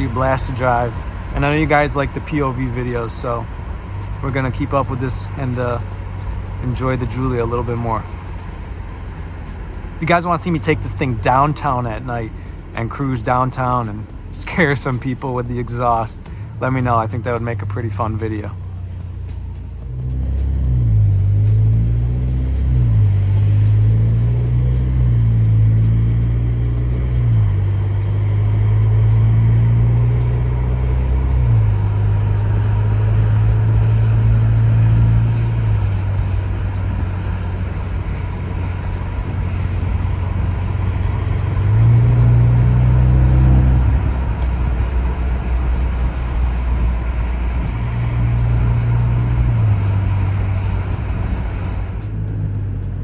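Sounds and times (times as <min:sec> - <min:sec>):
car exhaust drone while cruising: 0:00.0 - 0:53.0.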